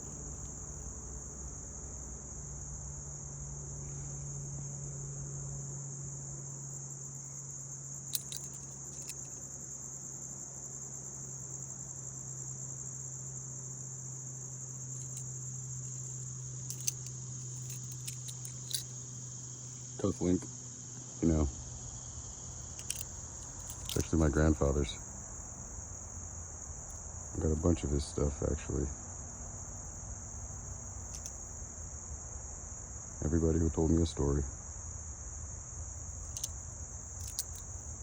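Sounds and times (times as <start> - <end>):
low steady hum: 0.0 - 9.8, 14.8 - 38.0
crickets trilling: 0.0 - 38.0.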